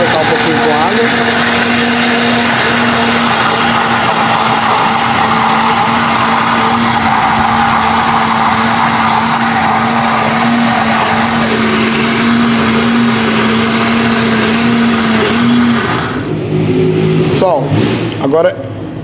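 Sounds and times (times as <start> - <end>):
blender running: 0.0 - 16.4.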